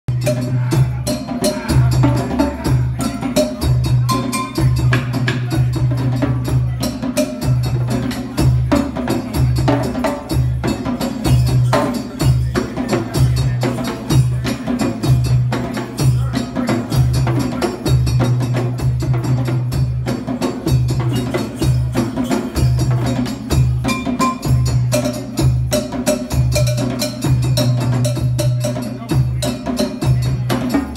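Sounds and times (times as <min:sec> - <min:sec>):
djembe drums: 0:00.1 - 0:30.9.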